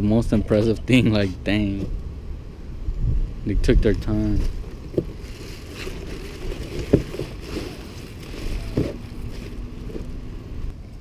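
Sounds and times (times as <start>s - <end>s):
faint steady hum: 0.0s - 11.0s
low outdoor rumble: 0.0s - 11.0s.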